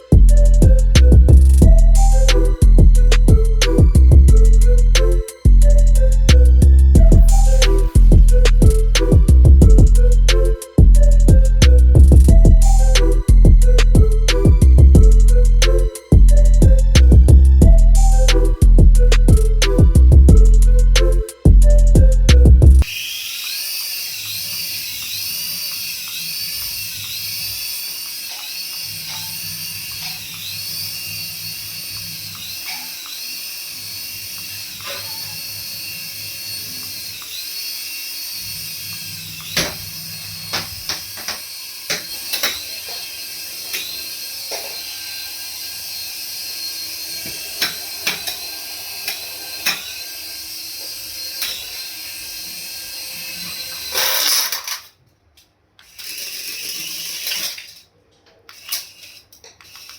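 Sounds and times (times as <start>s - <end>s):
toy motor whining: 0.0s - 54.9s, 55.8s - 57.9s, 58.5s - 59.9s.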